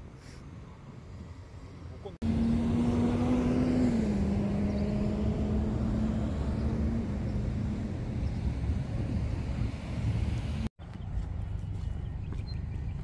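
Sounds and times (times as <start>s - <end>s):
street traffic hum: 0.0s - 13.0s
vehicle engine hum: 0.8s - 13.0s.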